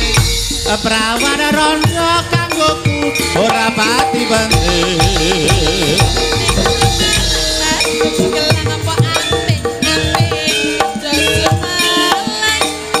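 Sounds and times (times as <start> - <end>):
woman singing with vibrato: 0.0 - 13.0.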